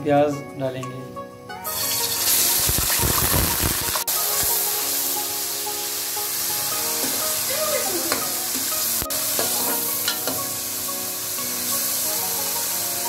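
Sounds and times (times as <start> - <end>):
onions sizzling in hot oil: 1.6 - 13.0.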